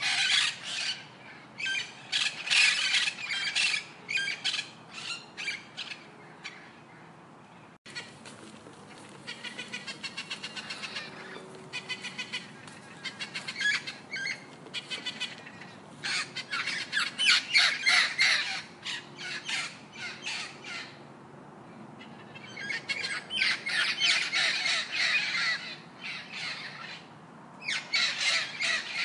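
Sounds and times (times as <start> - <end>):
birds squawking: 0.0 - 6.8, 7.9 - 21.1, 22.0 - 29.0.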